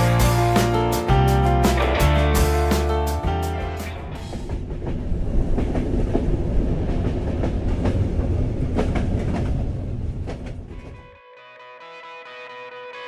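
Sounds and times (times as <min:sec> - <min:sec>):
train rumbling: 0:00.0 - 0:11.2.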